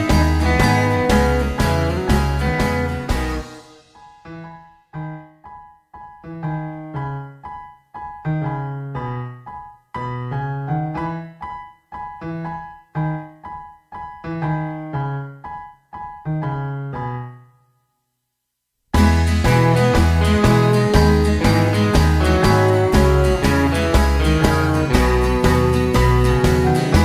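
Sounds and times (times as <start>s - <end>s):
piano music: 0.0s - 17.6s, 19.0s - 27.0s.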